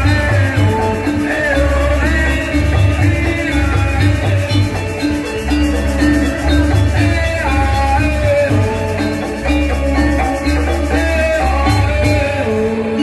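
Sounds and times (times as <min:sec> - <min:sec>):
gamelan music: 0:00.0 - 0:13.0
low pulsing beat: 0:00.0 - 0:13.0
tuned metal percussion: 0:00.0 - 0:13.0.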